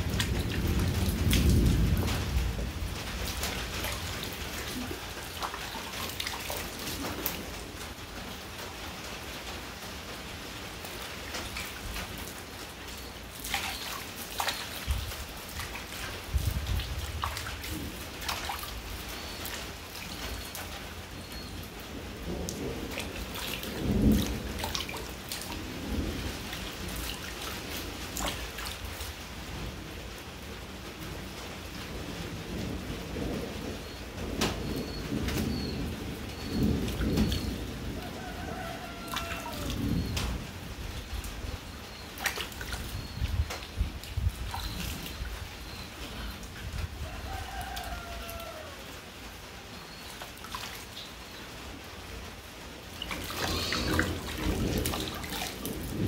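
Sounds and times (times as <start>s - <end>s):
raindrops hitting surfaces: 0.0s - 56.0s
steady rain falling: 0.0s - 56.0s.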